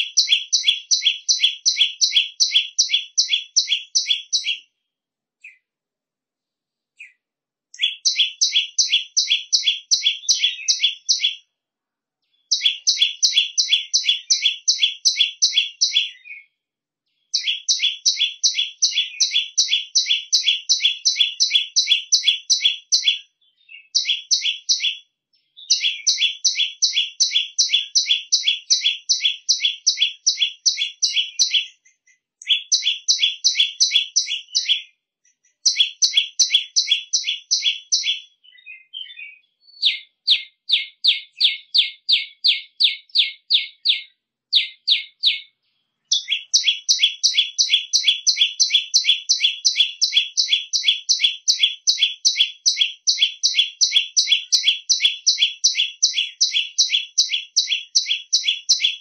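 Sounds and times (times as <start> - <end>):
bird calling shrill rapid notes: 0.0 - 4.7, 7.8 - 11.4, 12.5 - 16.4, 17.3 - 25.0, 25.6 - 34.9, 35.6 - 45.5, 46.1 - 59.0.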